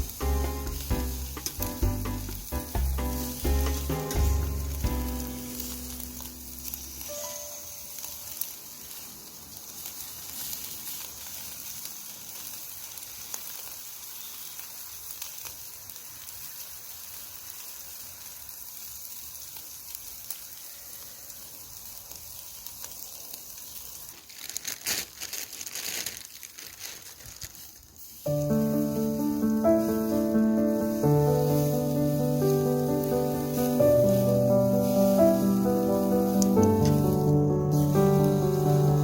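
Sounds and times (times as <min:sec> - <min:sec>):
campfire crackling and popping: 0:00.0 - 0:25.0, 0:27.5 - 0:39.0.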